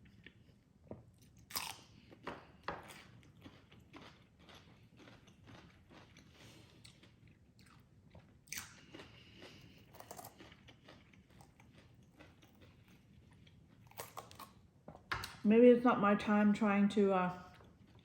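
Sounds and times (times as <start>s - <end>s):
person chewing crunchy salad: 0.0s - 15.1s, 17.5s - 18.0s.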